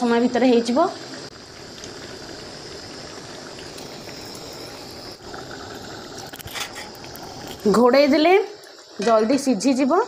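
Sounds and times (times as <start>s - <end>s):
curry simmering hiss: 0.0s - 10.0s.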